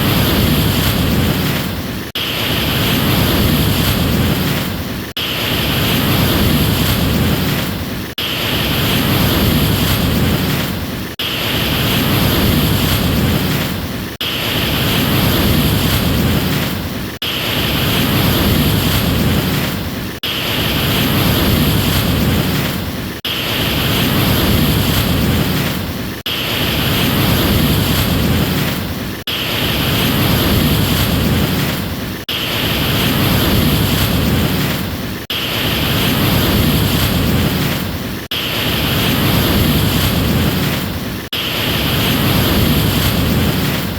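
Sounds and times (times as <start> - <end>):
ocean waves rushing: 0.0 - 43.9.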